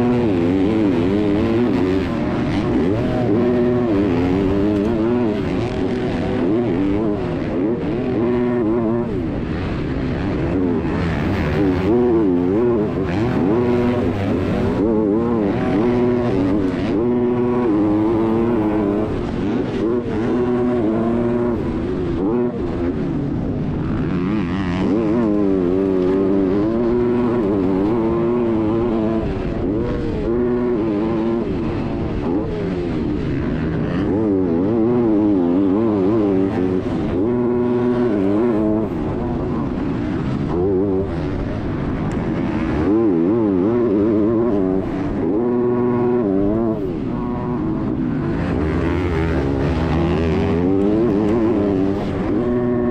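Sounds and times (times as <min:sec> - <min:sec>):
motorcycle engine racing: 0:00.0 - 0:52.9.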